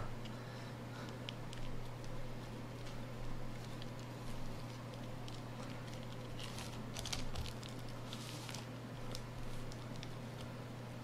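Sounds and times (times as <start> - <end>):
steady low hum: 0.0 - 11.0
fingers patting sticky rice: 1.0 - 11.0
plastic bag crinkling: 1.4 - 10.5.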